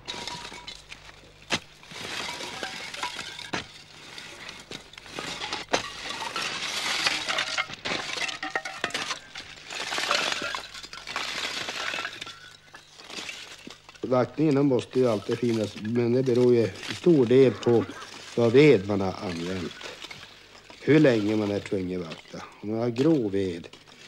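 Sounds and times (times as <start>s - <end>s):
charcoal lumps clinking and crackling: 0.0s - 24.0s
scraping rustle: 0.0s - 24.0s.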